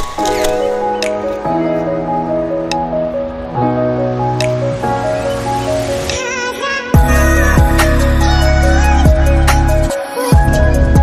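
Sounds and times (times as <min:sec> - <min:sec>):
music with long held chords: 0:00.0 - 0:11.0.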